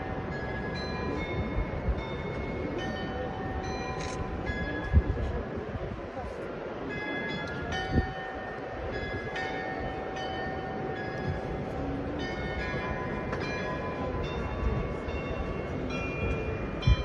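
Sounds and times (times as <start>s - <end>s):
glockenspiel bells playing a tune: 0.0s - 4.9s, 6.9s - 17.0s.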